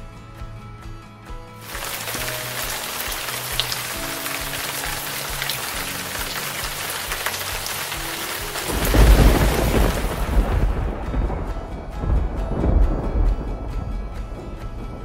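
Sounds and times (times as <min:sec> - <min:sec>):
soft background music: 0:00.0 - 0:15.0
steady rain falling: 0:01.6 - 0:15.0.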